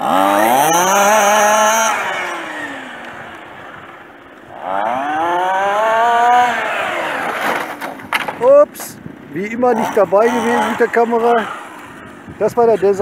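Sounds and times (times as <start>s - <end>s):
small petrol engine revving: 0.0s - 13.0s.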